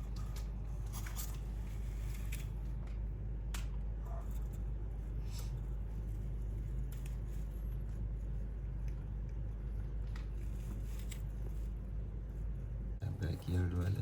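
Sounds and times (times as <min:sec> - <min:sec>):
low indoor hum: 0:00.0 - 0:14.0.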